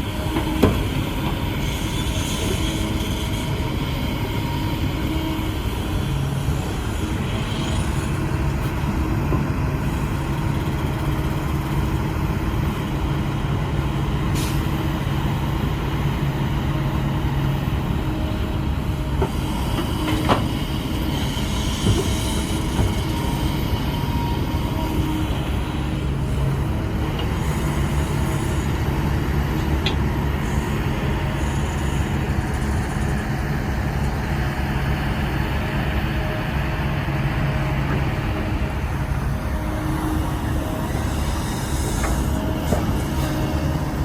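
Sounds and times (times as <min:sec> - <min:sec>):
heavy diesel machinery running: 0:00.0 - 0:44.0.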